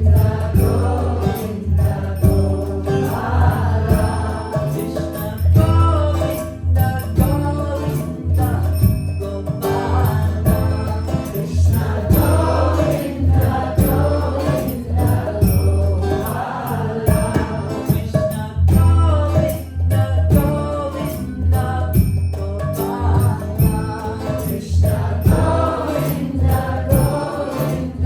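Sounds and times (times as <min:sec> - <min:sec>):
percussion beat: 0:00.0 - 0:28.0
voices singing a devotional chant: 0:00.0 - 0:28.0.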